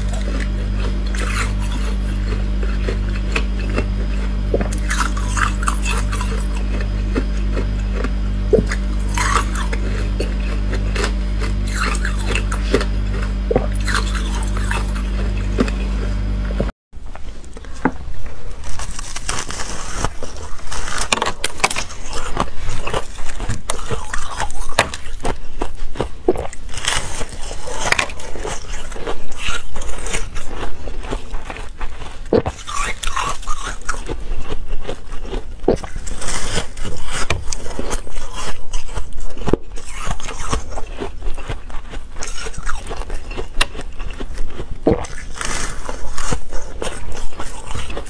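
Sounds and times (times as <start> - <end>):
teeth crunching ice: 0.0 - 16.0, 17.4 - 48.0
low pulsing hum: 0.0 - 48.0.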